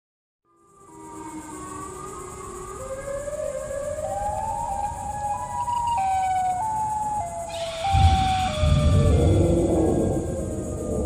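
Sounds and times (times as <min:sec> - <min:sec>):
siren-like wailing tones: 0:00.7 - 0:11.0.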